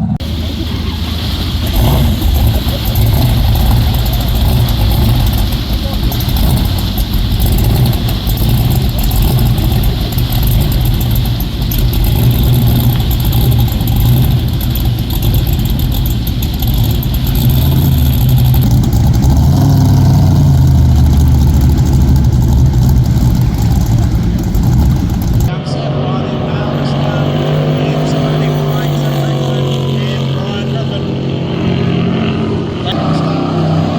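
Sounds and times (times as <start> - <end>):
boat engine rumbling: 0.0 - 33.9.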